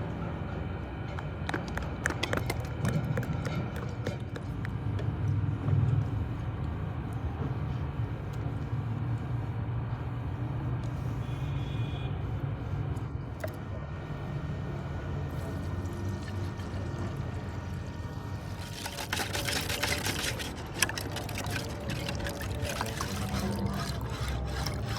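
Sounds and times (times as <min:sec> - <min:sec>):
low mechanical rumble: 0:00.0 - 0:24.9.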